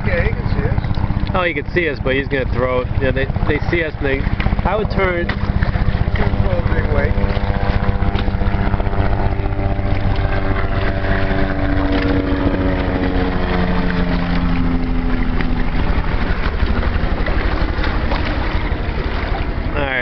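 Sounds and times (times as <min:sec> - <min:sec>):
motorboat engine droning: 0:00.0 - 0:20.0
wind rumble on microphone: 0:00.0 - 0:20.0.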